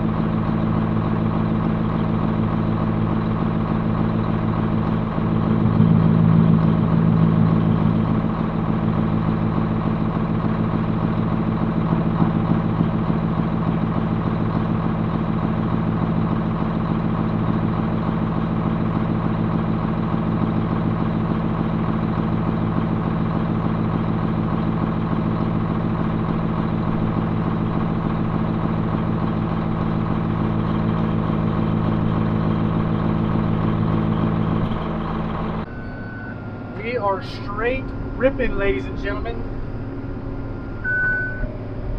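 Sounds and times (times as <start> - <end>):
tractor engine under load: 0.0 - 35.7.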